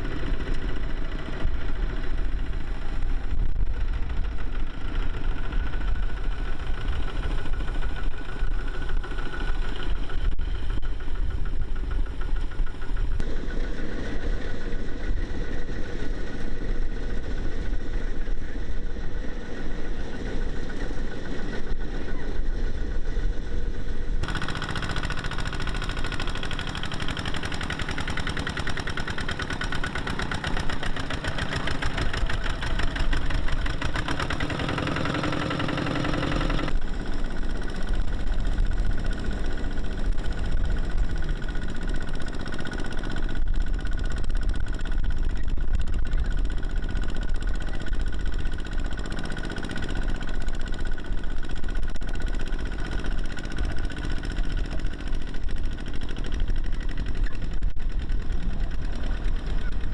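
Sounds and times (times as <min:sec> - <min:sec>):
tractor diesel engines chugging: 0:00.0 - 0:59.9.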